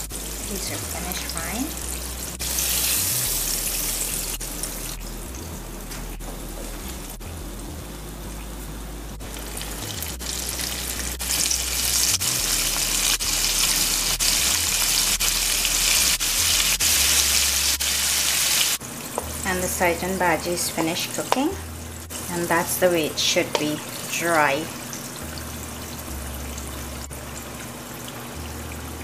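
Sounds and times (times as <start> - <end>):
hot oil sizzling: 0.0 - 29.0.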